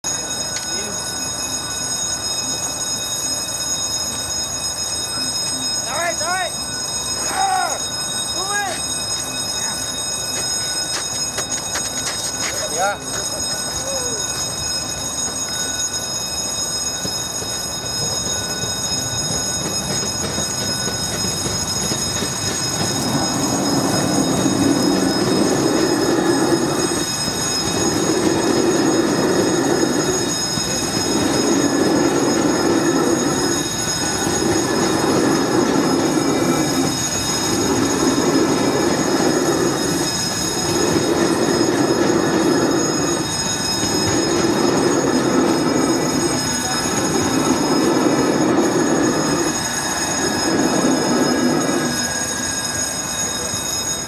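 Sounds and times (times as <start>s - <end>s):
train wheels rumbling: 10.1s - 53.8s.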